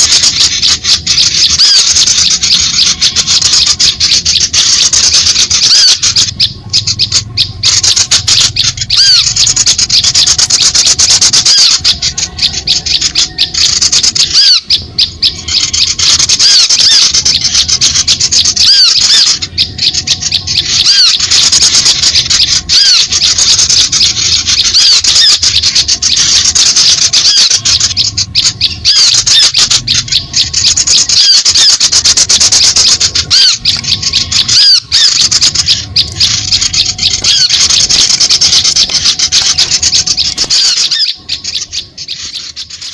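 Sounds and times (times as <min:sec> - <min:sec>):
small birds twittering: 0:00.0 - 0:42.9.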